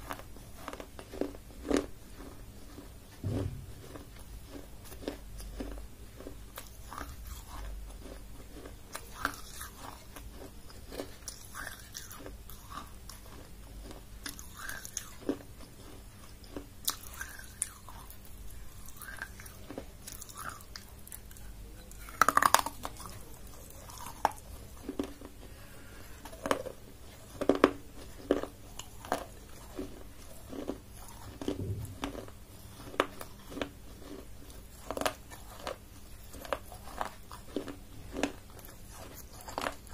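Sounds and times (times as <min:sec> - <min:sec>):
biting and chewing food: 0:00.0 - 0:39.9.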